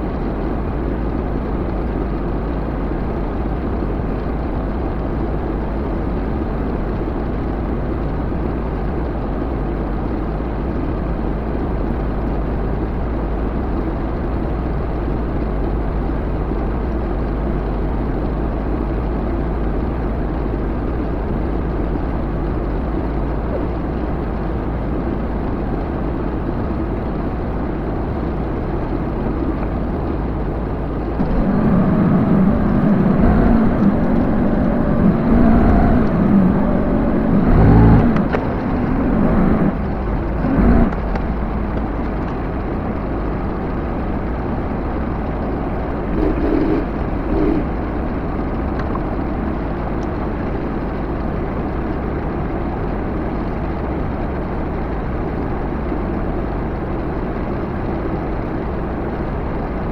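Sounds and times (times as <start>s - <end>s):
vehicle engine rumbling and revving: 0.0s - 59.9s.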